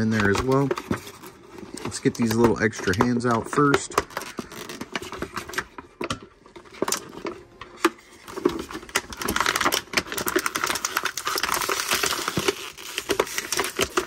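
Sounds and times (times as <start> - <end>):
plastic tray crinkling and crackling: 0.0 - 14.0.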